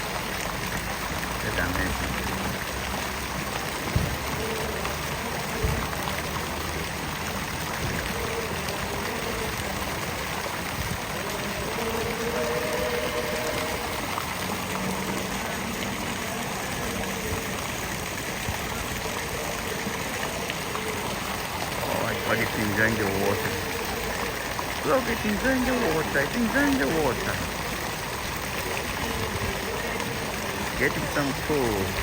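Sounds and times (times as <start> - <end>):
fountain water splashing: 0.0 - 32.0.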